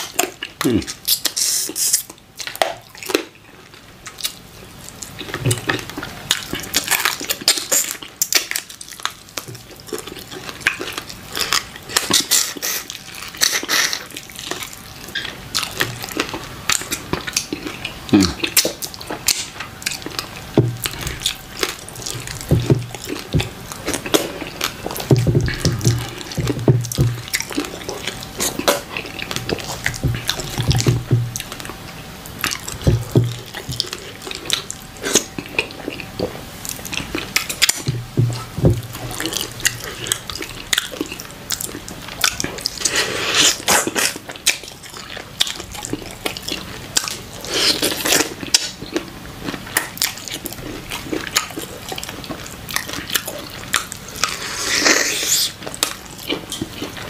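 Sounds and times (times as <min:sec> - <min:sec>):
wet chewing and lip-smacking: 0:00.0 - 0:57.0.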